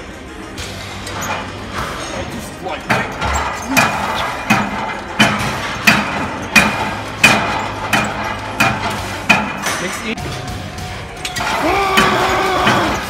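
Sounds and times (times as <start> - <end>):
weight stack clanking: 0.8 - 13.0.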